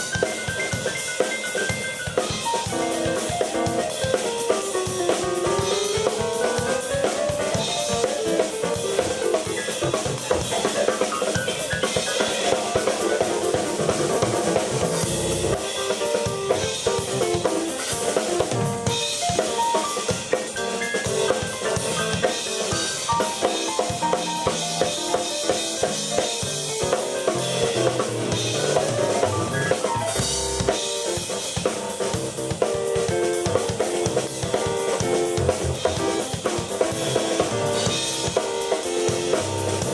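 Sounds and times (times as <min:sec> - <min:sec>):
drum kit playing: 0:00.0 - 0:39.9
keyboard playing: 0:00.0 - 0:39.9.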